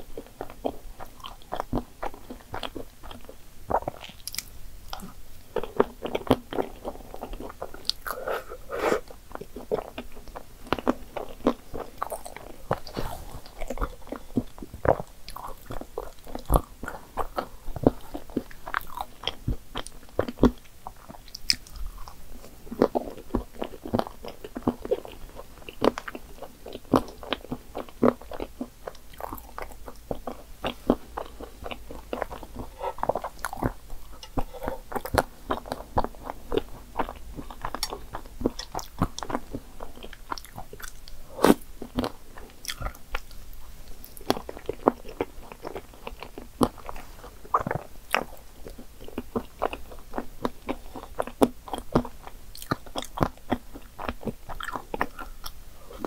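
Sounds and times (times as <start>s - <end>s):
chewing soft food: 0.0s - 56.0s.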